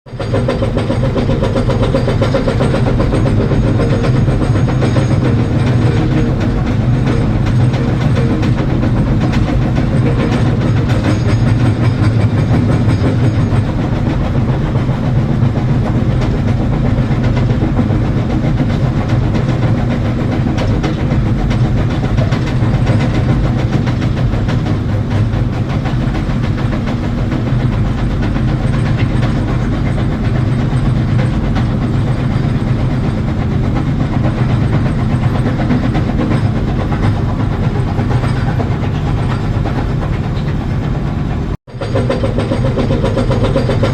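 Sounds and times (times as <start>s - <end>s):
excavator diesel engine running: 0.1s - 43.9s.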